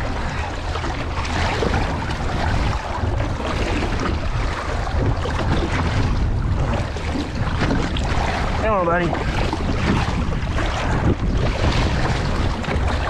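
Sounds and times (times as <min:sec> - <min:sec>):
steady low rumble: 0:00.0 - 0:13.0
water splashing along boat hull: 0:00.0 - 0:13.0
wind buffeting microphone: 0:00.0 - 0:13.0.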